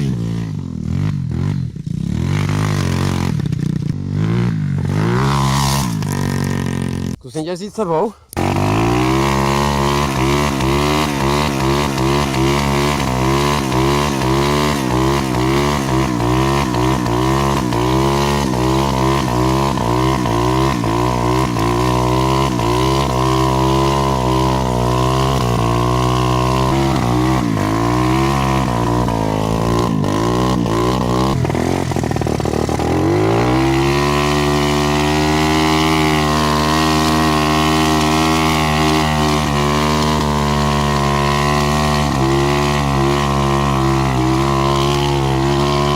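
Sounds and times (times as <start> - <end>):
dirt bike engine revving: 0.0 - 7.2, 8.4 - 45.9.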